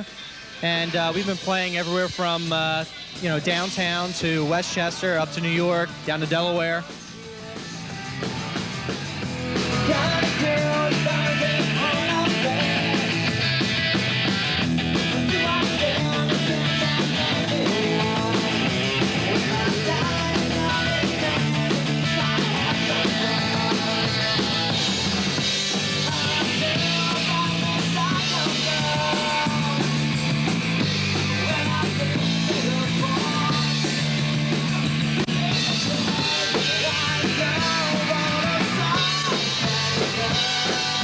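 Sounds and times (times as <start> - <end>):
rock band playing: 0.0 - 41.0.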